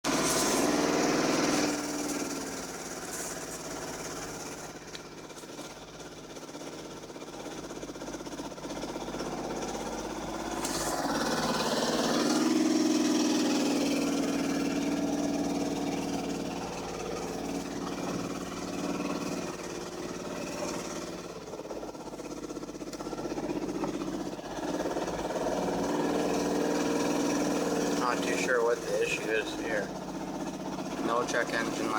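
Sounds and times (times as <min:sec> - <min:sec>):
car engine rough idle: 0:00.0 - 0:31.9.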